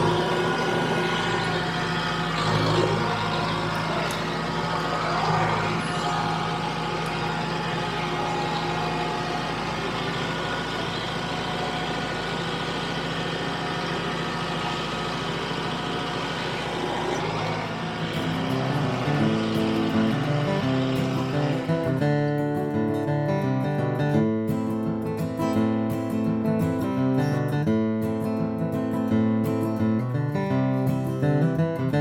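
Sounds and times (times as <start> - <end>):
tractor diesel engine running: 0.0 - 28.2.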